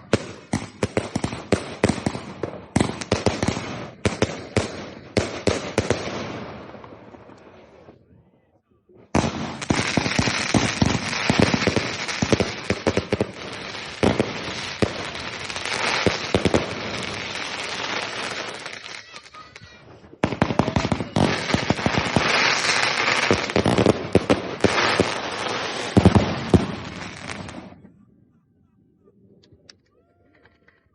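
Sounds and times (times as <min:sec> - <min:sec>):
fireworks firing volleys: 0:00.0 - 0:08.0, 0:09.0 - 0:28.0.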